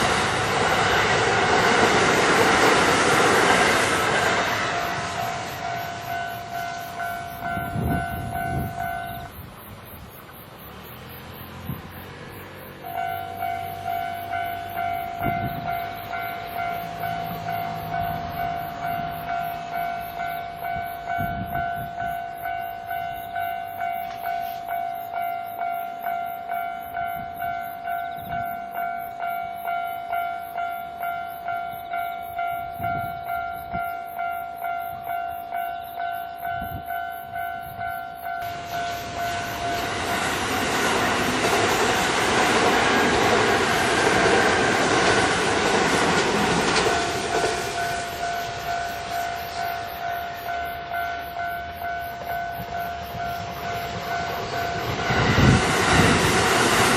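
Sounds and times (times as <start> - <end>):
electric train passing: 0.0 - 56.9
level-crossing warning bell: 0.0 - 56.9.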